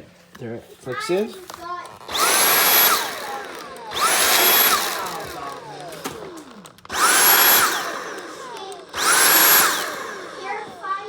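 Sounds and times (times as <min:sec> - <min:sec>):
vacuum motor whining: 0:01.4 - 0:11.0.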